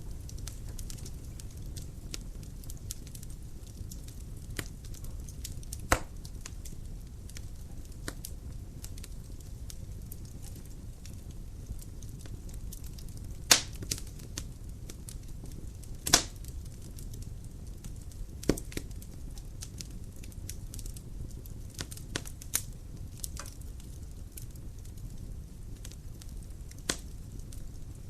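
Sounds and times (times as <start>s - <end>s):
fire crackling in a fireplace: 0.0s - 28.0s
firewood popping: 0.0s - 28.0s.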